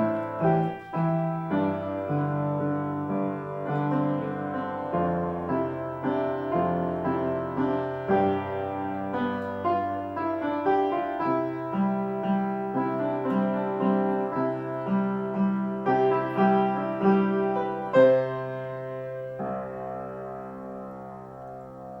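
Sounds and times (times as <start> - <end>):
slow piano piece: 0.0 - 22.0.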